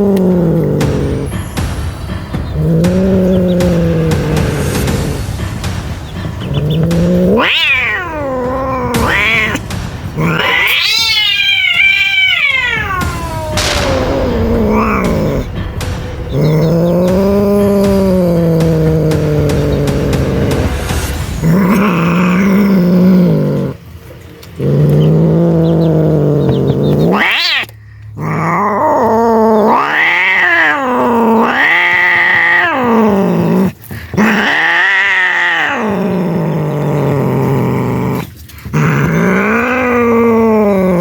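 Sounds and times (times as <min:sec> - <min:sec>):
cat yowling and growling: 0:00.0 - 0:01.4, 0:02.4 - 0:05.2, 0:06.4 - 0:15.5, 0:16.3 - 0:20.8, 0:21.4 - 0:23.8, 0:24.6 - 0:41.0.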